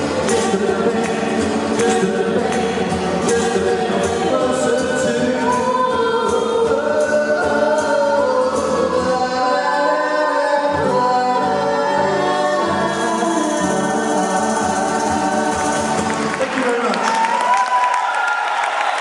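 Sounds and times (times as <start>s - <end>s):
voices singing in harmony: 0.0s - 16.6s.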